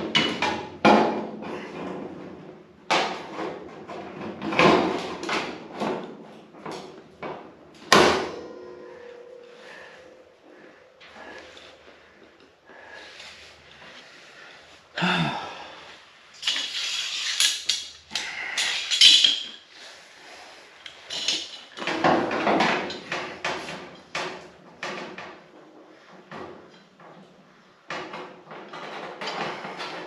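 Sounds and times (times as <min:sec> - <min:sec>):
tools scraping and clattering on metal: 0:00.0 - 0:14.6, 0:16.4 - 0:30.0.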